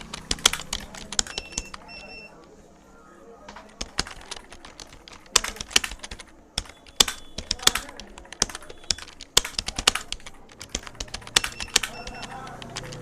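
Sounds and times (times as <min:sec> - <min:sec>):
fast typing on keyboard: 0:00.0 - 0:02.6, 0:03.4 - 0:13.0.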